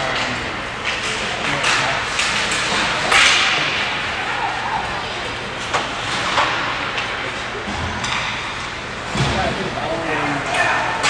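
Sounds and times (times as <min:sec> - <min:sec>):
hockey sticks and puck cracking: 0:00.0 - 0:09.4.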